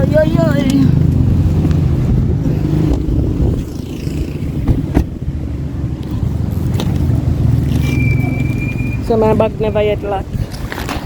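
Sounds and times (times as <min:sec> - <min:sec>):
car engine humming: 0:00.0 - 0:10.2.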